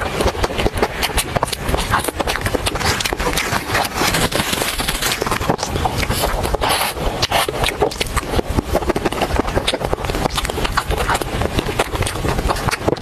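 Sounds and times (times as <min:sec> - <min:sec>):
wet chewing and lip smacking: 0:00.0 - 0:13.0.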